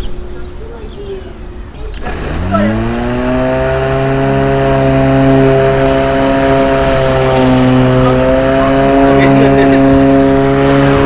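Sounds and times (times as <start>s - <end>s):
electric lawn mower motor humming: 1.8s - 11.0s.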